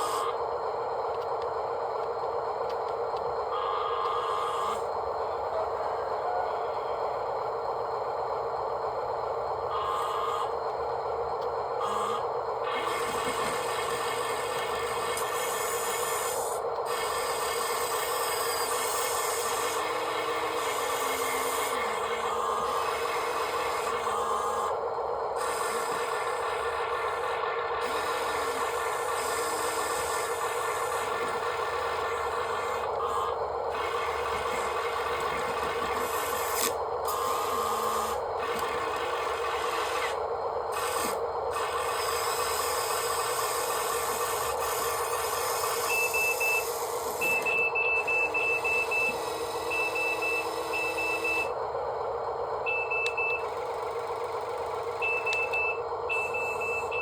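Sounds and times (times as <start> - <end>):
excavator engine rasping: 0.0 - 57.0.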